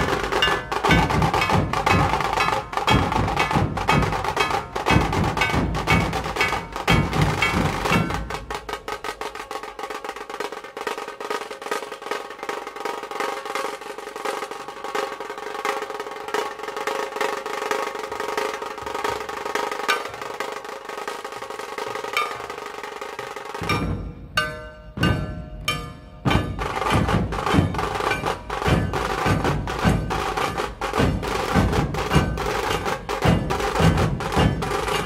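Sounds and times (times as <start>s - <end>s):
fast tasha drum roll: 0.0s - 35.0s
heavy dhol drum strokes: 0.0s - 35.0s.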